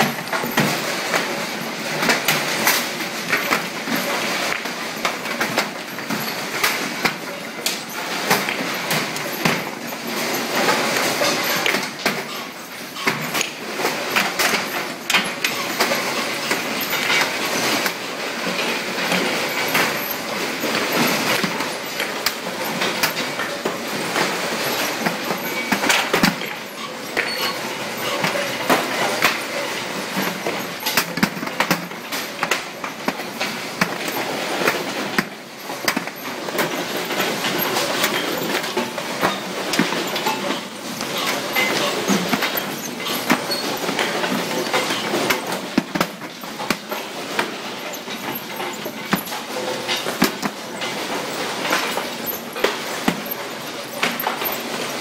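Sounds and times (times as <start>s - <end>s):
conveyor belts clattering: 0.0s - 55.0s
lumps knocking on rollers: 0.1s - 55.0s.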